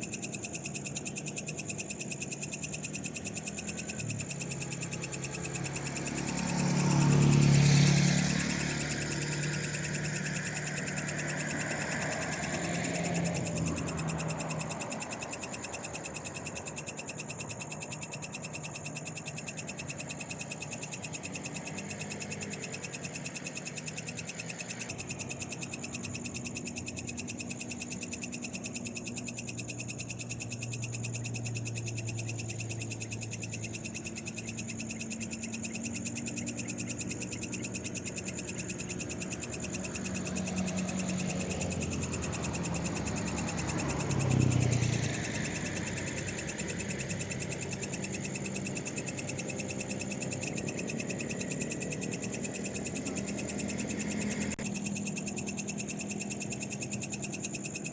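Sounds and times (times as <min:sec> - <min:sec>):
frogs trilling: 0:00.0 - 0:57.9
passing vehicle engine hum: 0:03.0 - 0:57.8.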